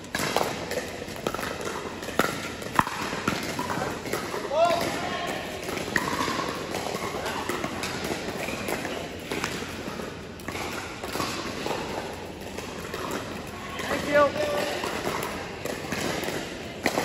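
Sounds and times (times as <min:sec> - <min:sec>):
paddles hitting balls: 0:00.0 - 0:17.0.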